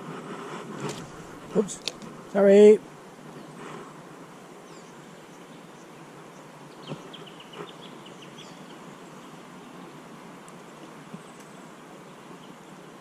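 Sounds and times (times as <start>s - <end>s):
shallow river flowing: 0.0s - 13.0s.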